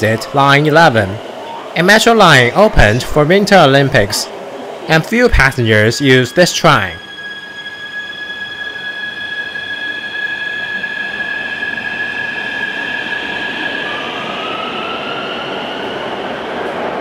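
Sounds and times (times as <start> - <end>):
rushing rail noise: 0.0 - 17.0
train electric whine: 0.0 - 17.0.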